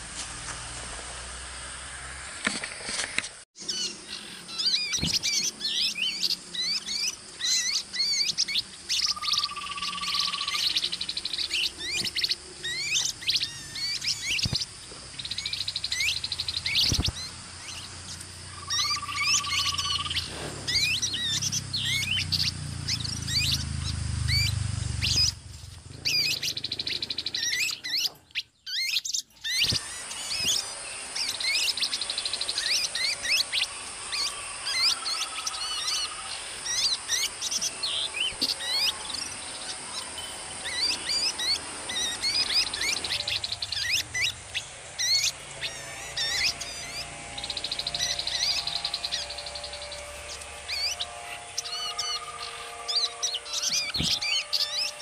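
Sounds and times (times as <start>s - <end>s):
babbler birds chirping and trilling: 3.6s - 55.0s.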